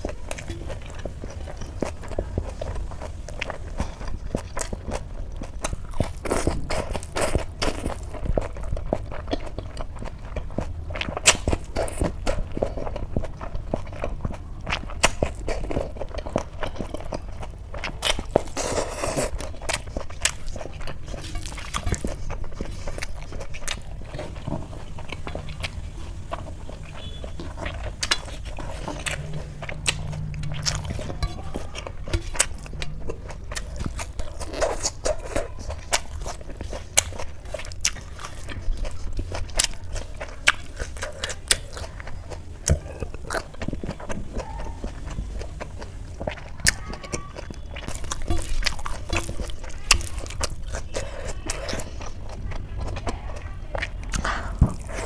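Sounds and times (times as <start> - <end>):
chewing and biting: 0.0 - 55.0
low steady hum: 0.0 - 55.0.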